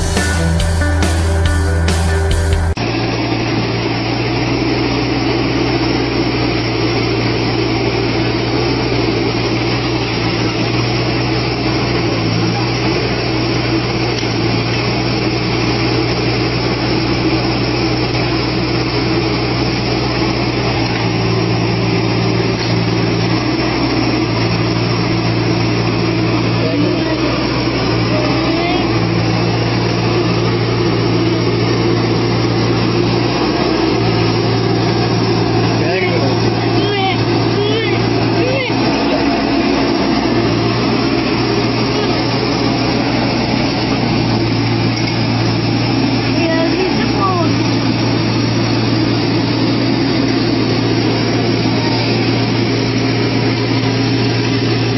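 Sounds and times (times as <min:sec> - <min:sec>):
diesel engine under hydraulic load: 0:00.0 - 0:54.9.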